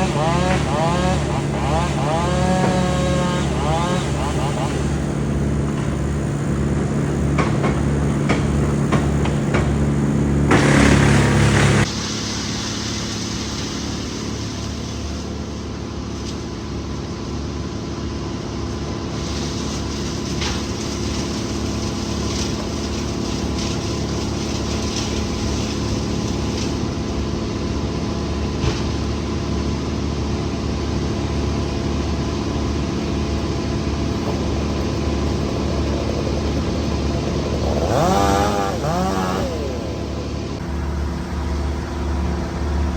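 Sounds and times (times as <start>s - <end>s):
heavy machinery engines running: 0.0s - 42.9s.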